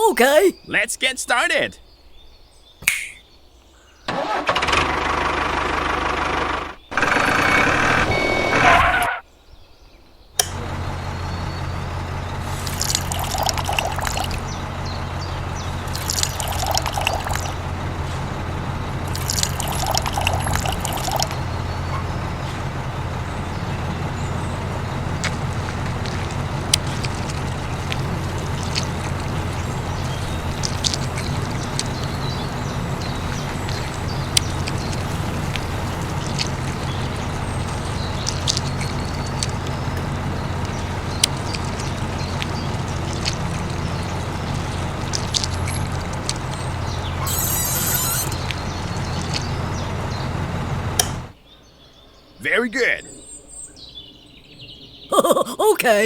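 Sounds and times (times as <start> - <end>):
engine running: 4.1 - 8.7, 10.5 - 51.4.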